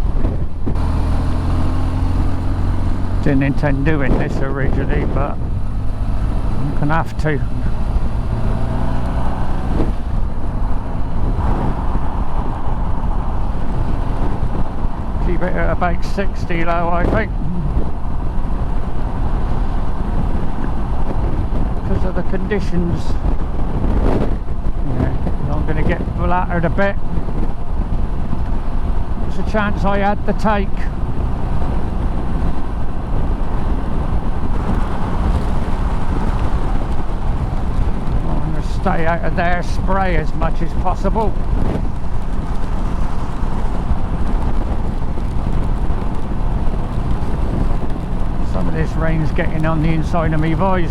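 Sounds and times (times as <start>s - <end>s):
motorcycle engine running: 0.0s - 50.9s
wind rushing on microphone: 0.0s - 50.9s.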